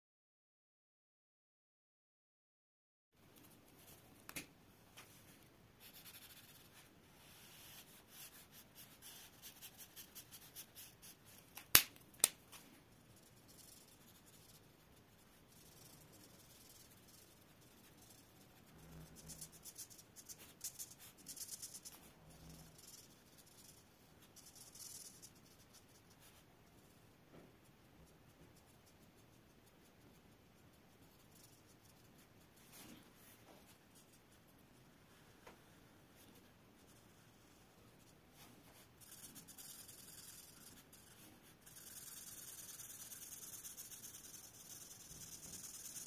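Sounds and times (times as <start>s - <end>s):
marker scratching on paper: 5.0s - 11.5s, 12.5s - 26.5s, 27.7s - 34.5s, 36.2s - 46.0s.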